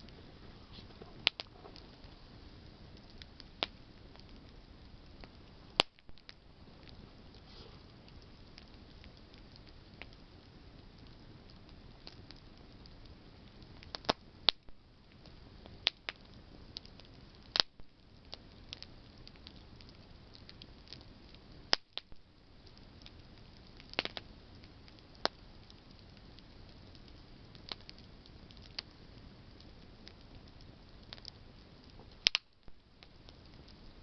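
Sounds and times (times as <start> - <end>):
campfire crackling and popping: 0.0 - 34.0
faint steady hiss: 0.0 - 34.0.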